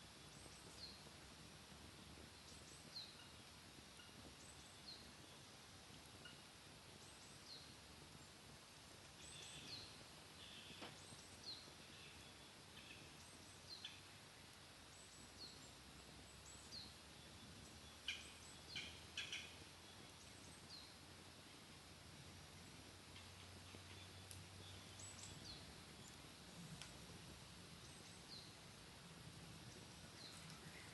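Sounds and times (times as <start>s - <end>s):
small wood fire crackling: 0.0s - 30.9s.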